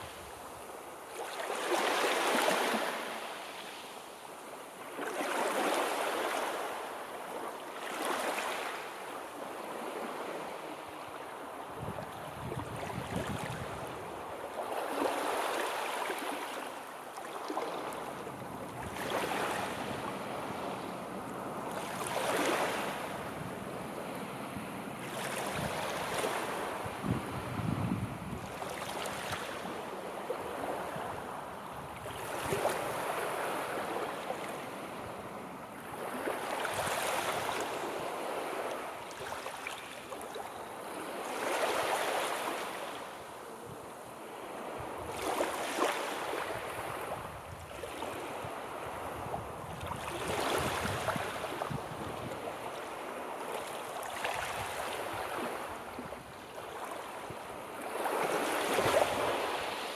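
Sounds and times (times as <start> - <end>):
sea waves rolling in: 0.0 - 59.9.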